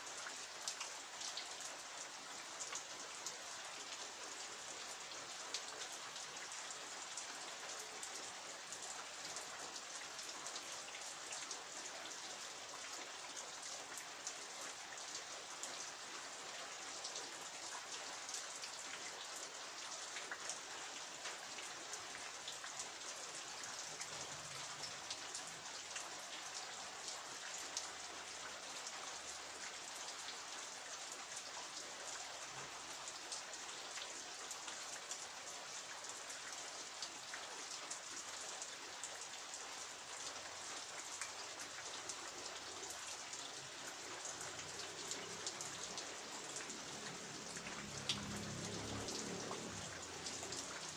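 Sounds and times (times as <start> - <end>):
raindrops hitting a surface: 0.0 - 50.9
steady rain: 0.0 - 50.9.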